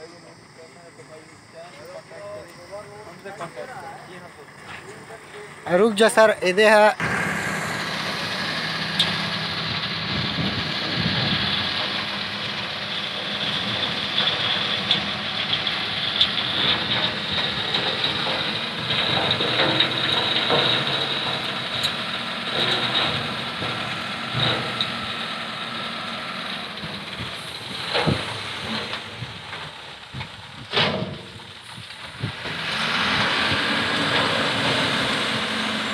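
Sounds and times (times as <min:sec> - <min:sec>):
diesel truck engine running: 0:00.0 - 0:35.9
soil and stones sliding: 0:01.9 - 0:35.9.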